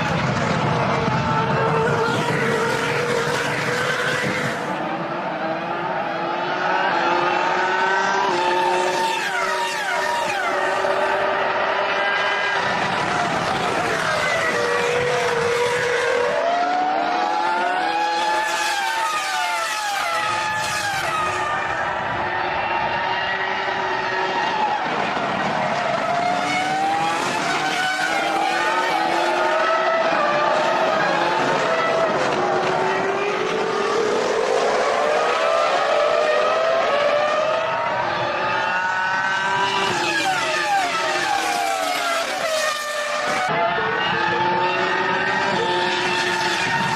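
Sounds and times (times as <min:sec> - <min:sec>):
racing car engines revving: 0:00.0 - 0:46.9.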